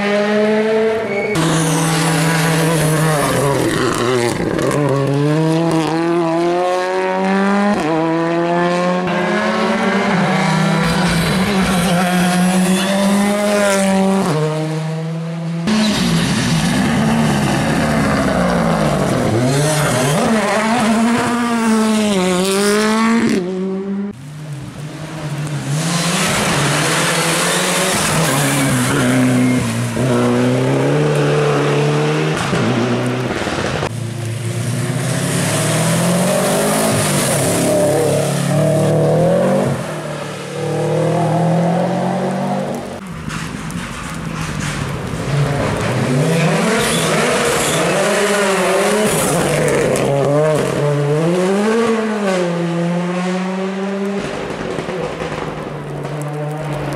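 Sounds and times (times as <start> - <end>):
rally cars passing at speed: 0.0 - 56.9.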